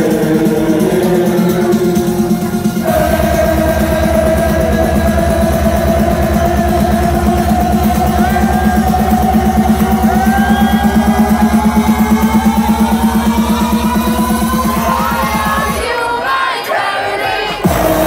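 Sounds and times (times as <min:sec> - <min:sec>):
pulsing bass beat: 0:00.0 - 0:15.9, 0:17.6 - 0:18.0.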